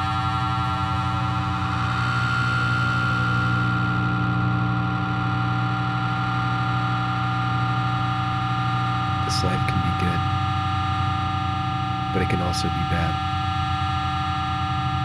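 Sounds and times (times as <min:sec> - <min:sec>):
distorted droning music: 0:00.0 - 0:15.0.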